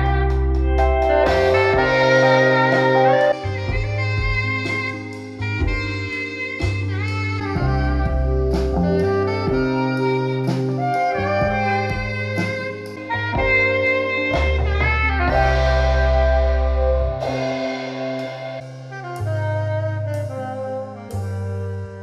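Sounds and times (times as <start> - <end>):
music over loudspeakers: 0.0 - 20.5.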